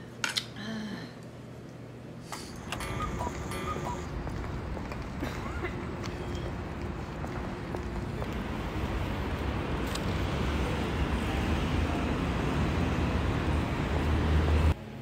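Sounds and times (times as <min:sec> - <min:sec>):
traffic hum: 0:01.5 - 0:14.8.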